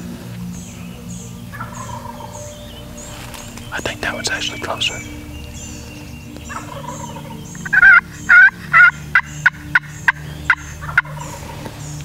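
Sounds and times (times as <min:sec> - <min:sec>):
wild turkey calling: 0:00.2 - 0:12.0.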